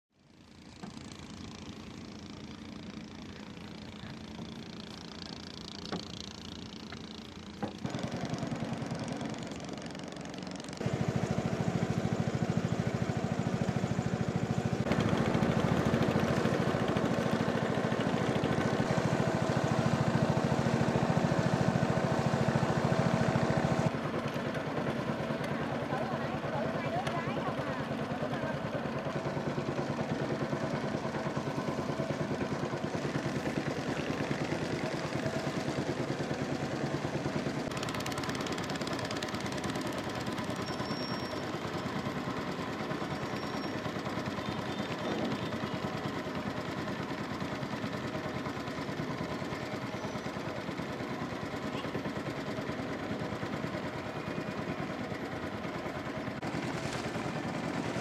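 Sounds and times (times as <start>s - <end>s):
small boat engine running: 0.1s - 58.0s.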